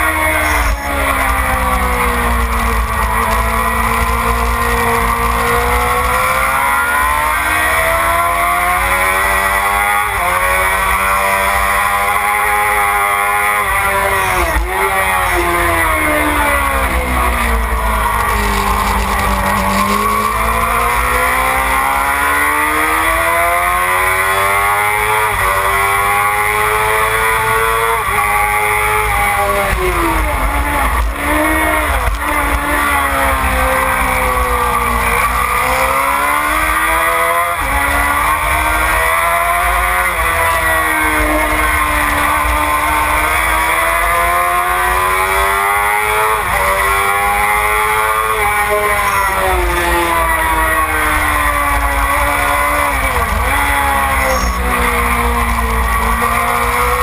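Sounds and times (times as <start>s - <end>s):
motorcycle engine shifting gears: 0.0s - 57.0s.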